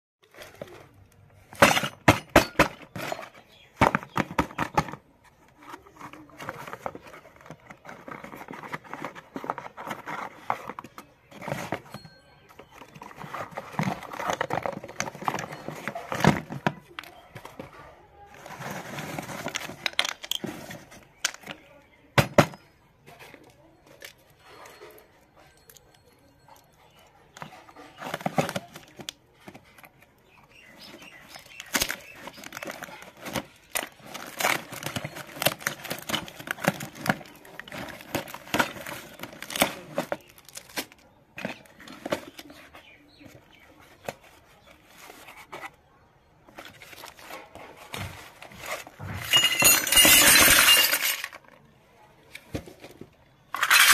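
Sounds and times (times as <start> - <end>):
cardboard rustling and scraping: 0.2 - 25.0, 27.2 - 50.5, 51.4 - 53.9.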